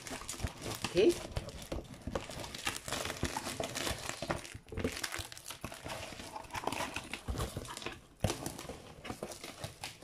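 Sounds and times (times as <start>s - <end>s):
cardboard rustling: 0.0s - 10.0s.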